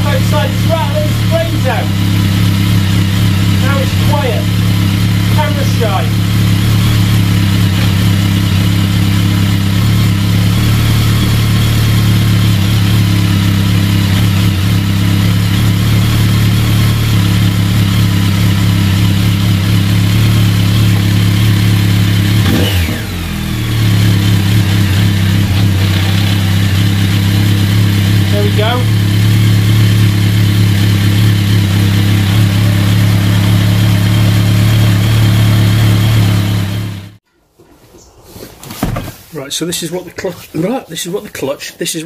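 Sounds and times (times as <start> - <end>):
motorcycle engine idling: 0.0 - 37.2.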